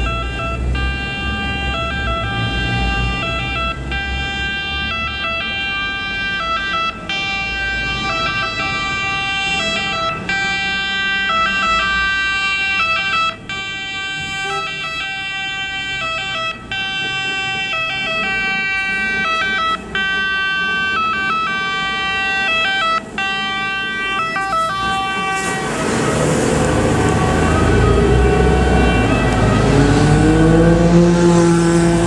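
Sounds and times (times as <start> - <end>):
fire truck two-tone siren: 0.0 - 32.0.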